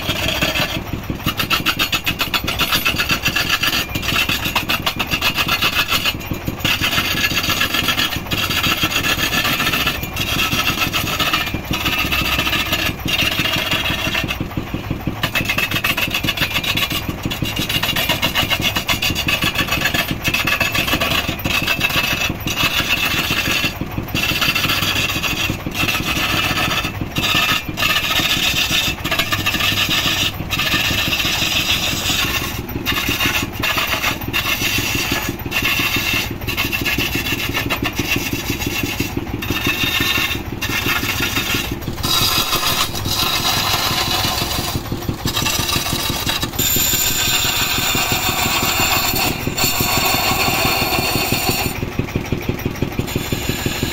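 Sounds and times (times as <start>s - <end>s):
chisel scraping and shaving wood: 0.0s - 53.9s
wood lathe running: 0.0s - 53.9s.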